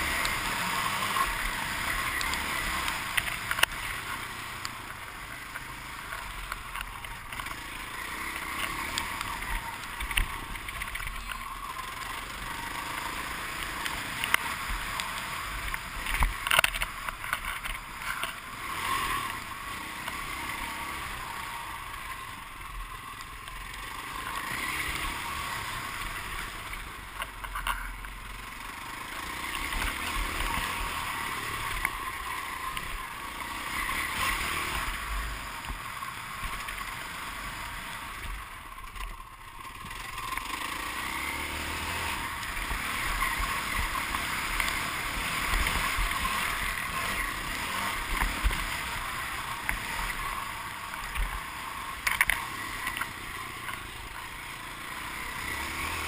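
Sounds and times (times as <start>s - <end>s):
dirt bike engine revving: 0.0s - 27.2s, 28.2s - 38.6s, 39.4s - 56.0s.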